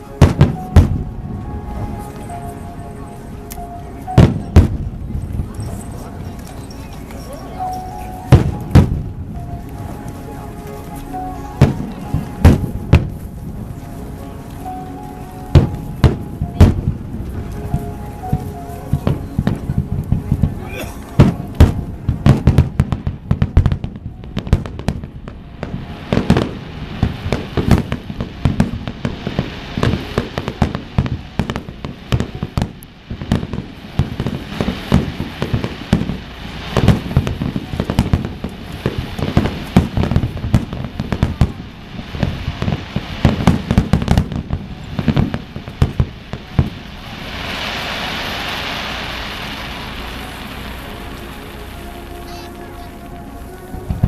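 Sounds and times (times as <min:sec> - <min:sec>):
fireworks booming: 0:00.0 - 0:02.8, 0:04.1 - 0:06.5, 0:07.7 - 0:10.0, 0:11.0 - 0:13.8, 0:15.0 - 0:54.0
fireworks crackling hiss: 0:00.0 - 0:54.0.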